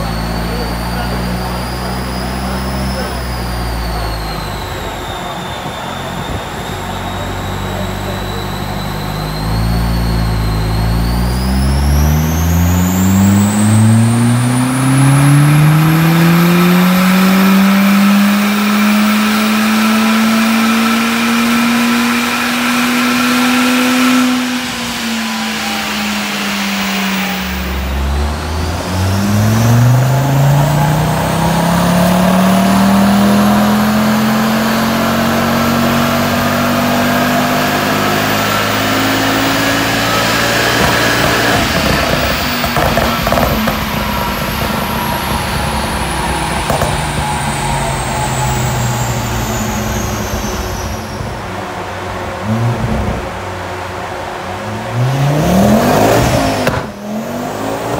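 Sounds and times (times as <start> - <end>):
car engine revving under load: 0.0 - 57.9
high whine: 0.0 - 57.9.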